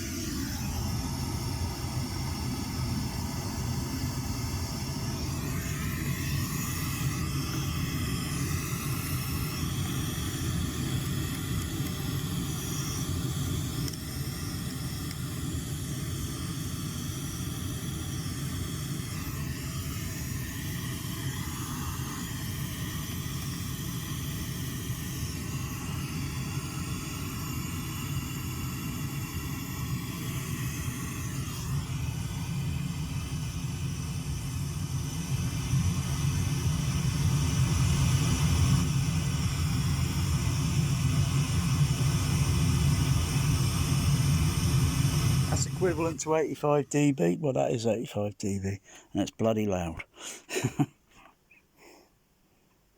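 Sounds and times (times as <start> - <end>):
pink noise hiss with bass: 0.0 - 51.1.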